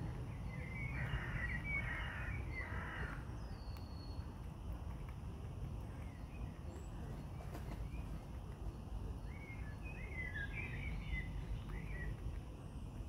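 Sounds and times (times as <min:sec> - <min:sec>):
small bird chirping: 0:00.0 - 0:04.4, 0:05.8 - 0:13.0.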